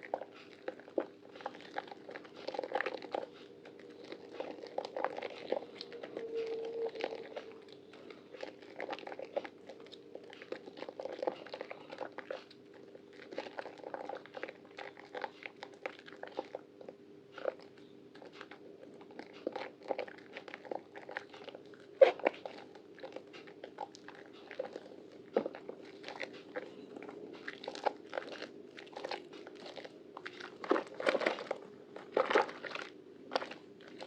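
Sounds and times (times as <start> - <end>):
faint steady hum: 0.0 - 34.0
wet soap crackling and squishing: 0.0 - 34.0.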